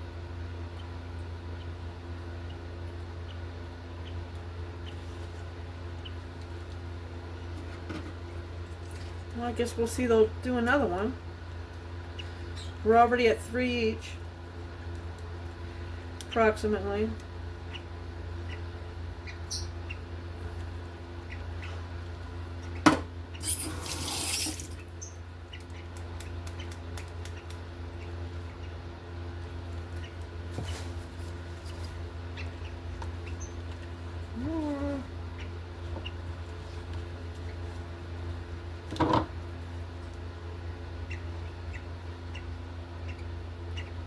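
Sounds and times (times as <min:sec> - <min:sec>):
steady low hum: 0:00.0 - 0:44.0
bird chicks peeping: 0:00.4 - 0:07.6, 0:11.4 - 0:13.3, 0:14.2 - 0:23.4, 0:24.8 - 0:37.9, 0:39.5 - 0:44.0.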